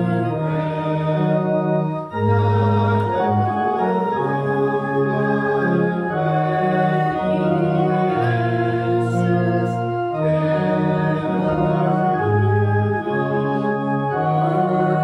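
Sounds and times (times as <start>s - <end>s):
organ sustained chords: 0.0s - 15.0s.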